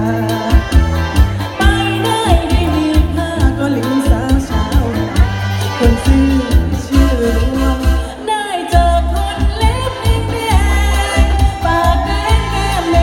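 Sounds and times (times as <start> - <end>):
bass and drum beat: 0.0 - 8.1, 8.7 - 13.0
person singing: 0.0 - 13.0.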